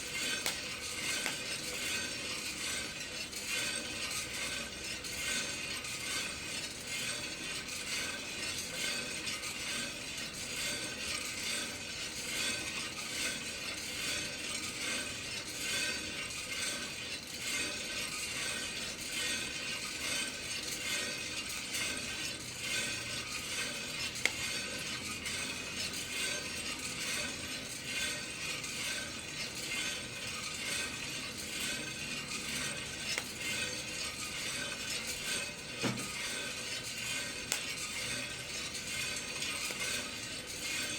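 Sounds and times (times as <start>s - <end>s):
coffee beans rattling in roaster drum: 0.0s - 40.9s.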